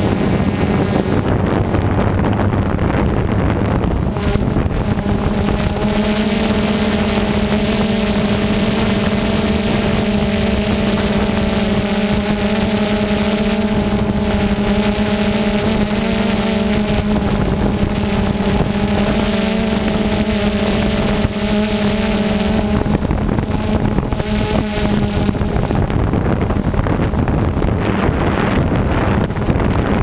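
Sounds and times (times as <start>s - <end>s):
rushing air noise: 0.0s - 12.3s, 16.8s - 30.0s
drone propellers humming: 0.0s - 30.0s.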